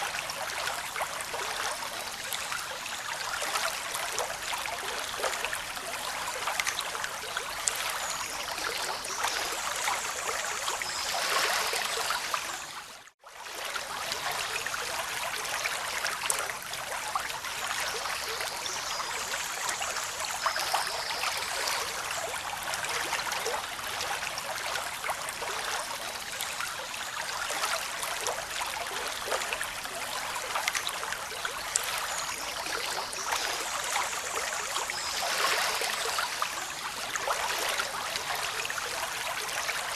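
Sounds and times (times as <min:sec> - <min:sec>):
running water rushing: 0:00.0 - 0:13.0, 0:13.8 - 0:39.9.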